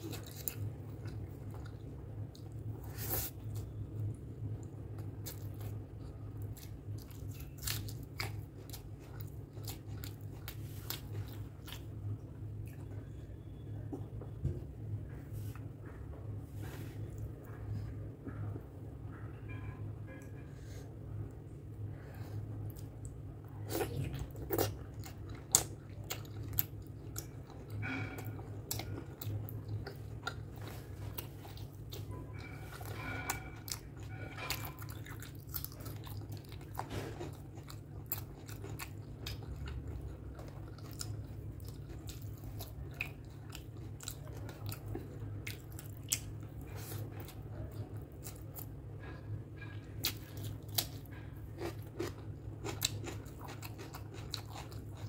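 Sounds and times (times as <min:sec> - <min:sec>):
person chewing with wet mouth sounds: 0:00.0 - 0:13.6, 0:21.8 - 0:55.0
steady low hum: 0:00.0 - 0:55.0.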